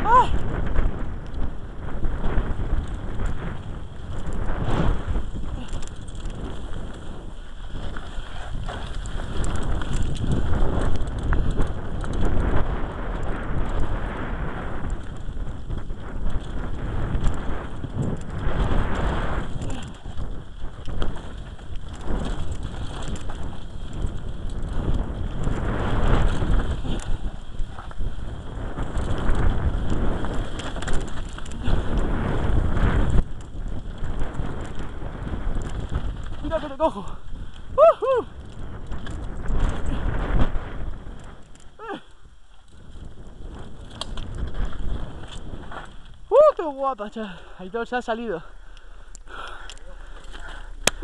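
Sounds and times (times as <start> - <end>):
bike chain and frame rattling: 0.0 - 51.0
tyres running over dirt: 0.0 - 51.0
wind rushing over microphone: 0.0 - 51.0.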